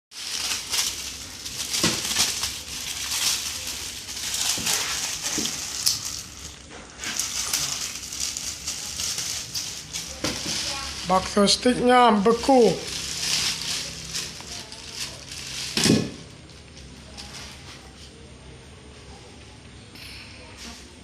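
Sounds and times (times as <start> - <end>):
packaging crinkling and crackling: 0.1 - 17.7.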